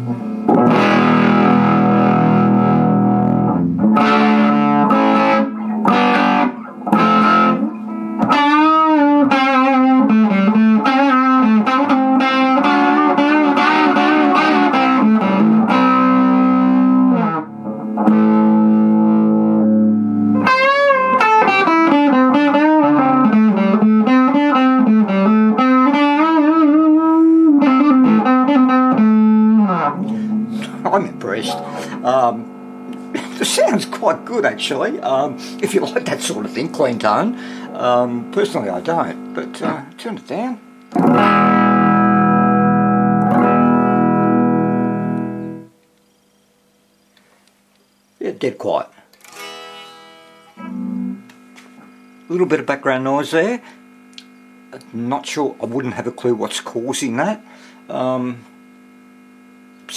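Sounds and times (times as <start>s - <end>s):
overdriven electric guitar: 0.0s - 46.2s, 49.1s - 52.4s.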